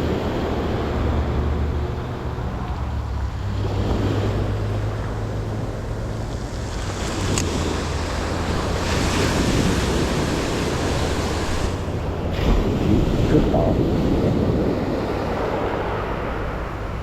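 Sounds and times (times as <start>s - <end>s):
surf washing on a beach: 0.0s - 17.0s
wind rumbling on microphone: 0.0s - 17.0s.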